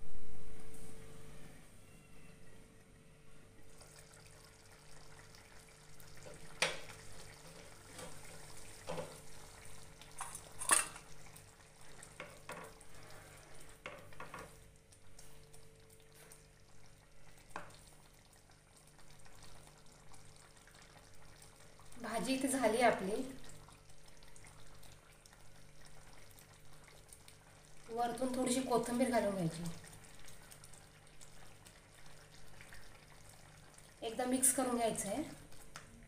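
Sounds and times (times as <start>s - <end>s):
gravy bubbling: 3.6s - 36.0s.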